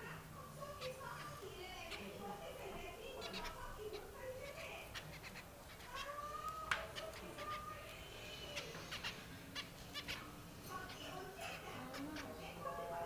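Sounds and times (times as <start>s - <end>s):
finches calling: 0.6s - 12.9s.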